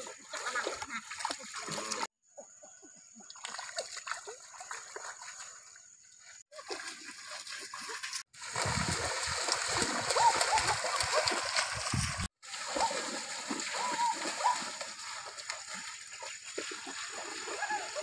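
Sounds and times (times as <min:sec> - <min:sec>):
feet splashing through water: 0:00.0 - 0:02.1, 0:03.3 - 0:05.8, 0:06.5 - 0:18.0.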